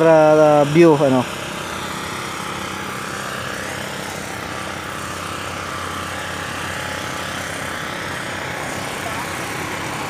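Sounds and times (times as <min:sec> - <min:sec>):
low hum: 0:00.0 - 0:10.0
road traffic rumble: 0:00.0 - 0:10.0.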